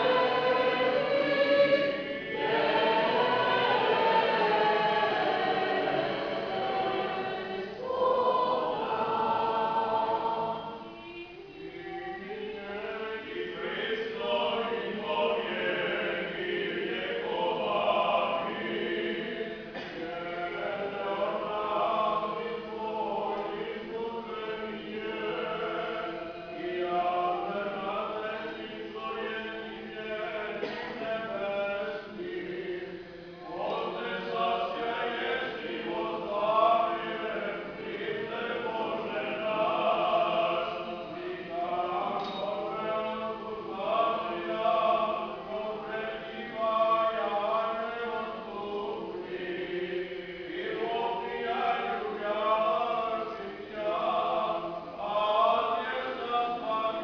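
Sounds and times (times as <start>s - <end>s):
choir singing a cappella chant: 0.0s - 57.0s.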